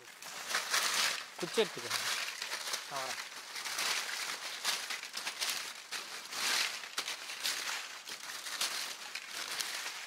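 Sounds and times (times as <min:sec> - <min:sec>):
dry leaves and twigs crunching: 0:00.0 - 0:10.0.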